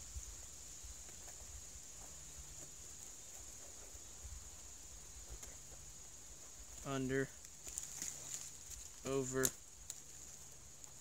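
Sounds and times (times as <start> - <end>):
vine weaving rustling and clicks: 0.4 - 11.0.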